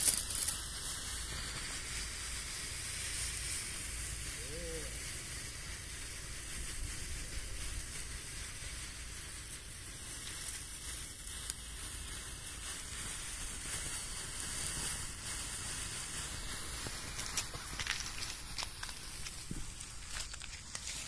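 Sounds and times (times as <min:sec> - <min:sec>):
firework tablet sizzling: 0:00.0 - 0:21.0.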